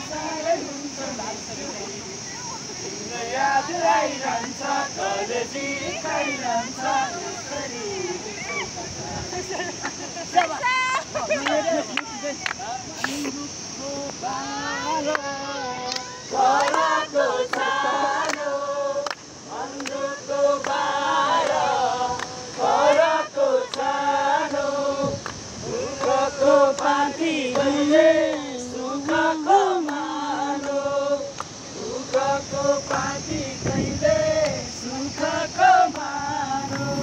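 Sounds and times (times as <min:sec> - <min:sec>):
group singing in chorus: 0:00.0 - 0:10.0, 0:13.0 - 0:37.0.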